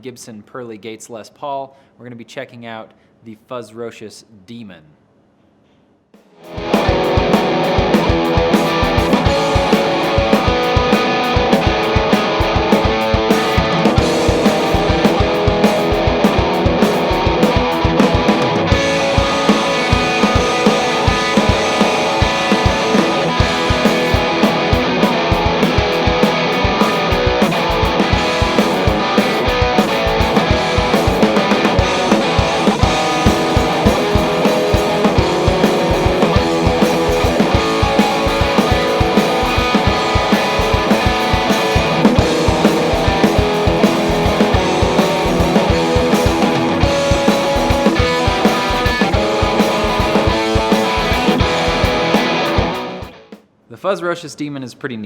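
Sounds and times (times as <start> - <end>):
rock drum beat: 6.2 - 53.5
distorted electric guitar: 6.4 - 53.3.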